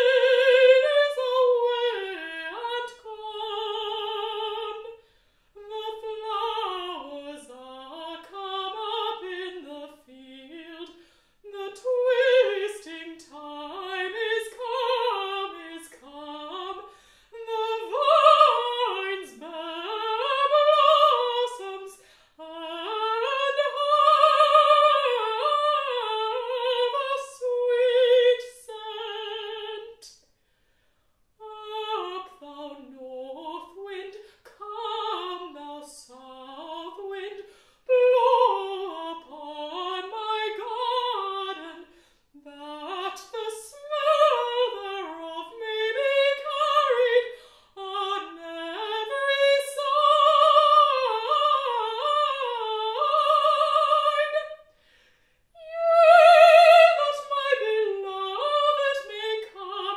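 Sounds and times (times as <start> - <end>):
woman singing operatically: 0.0 - 5.0, 5.6 - 30.1, 31.4 - 54.7, 55.6 - 59.9.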